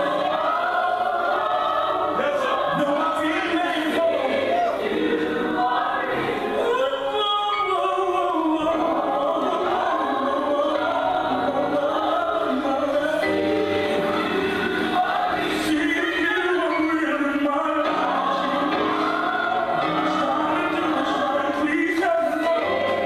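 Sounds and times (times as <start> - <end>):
choir singing gospel song: 0.0 - 23.0.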